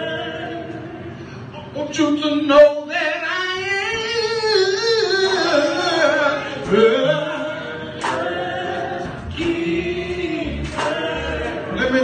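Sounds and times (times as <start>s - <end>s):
lead voice singing with vibrato: 0.0s - 12.0s
male vocal group singing gospel: 0.0s - 12.0s.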